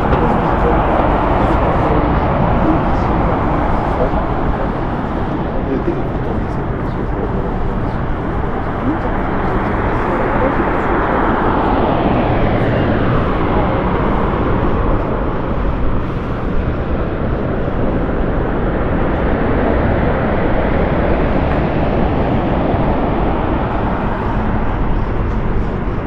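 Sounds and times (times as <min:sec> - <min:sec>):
wind noise on microphone: 0:00.0 - 0:26.0.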